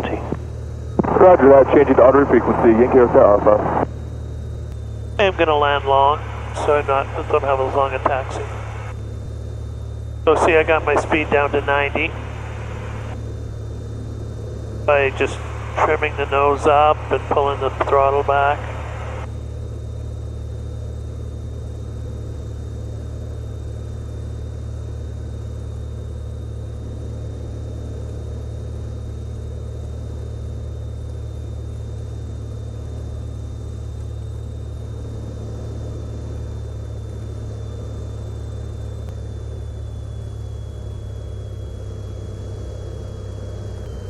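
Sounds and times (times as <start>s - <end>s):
airplane engine and propeller droning: 0.0s - 44.0s
thin high whine: 0.0s - 44.0s.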